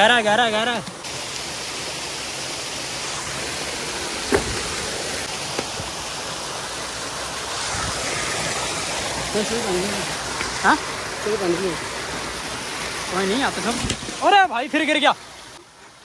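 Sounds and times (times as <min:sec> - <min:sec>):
water rushing over waterfall: 0:00.0 - 0:16.0.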